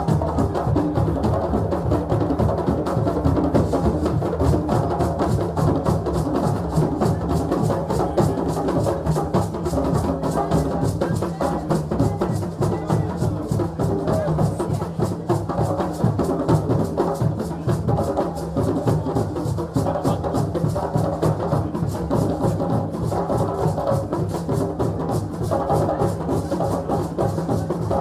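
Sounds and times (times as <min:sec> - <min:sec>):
hand drums and bass drum: 0:00.0 - 0:28.0.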